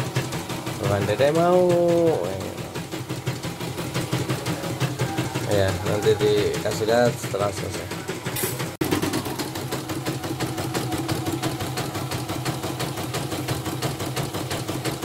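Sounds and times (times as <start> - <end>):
embroidery machine stitching clatter: 0.0 - 15.0
motor hum: 0.0 - 15.0.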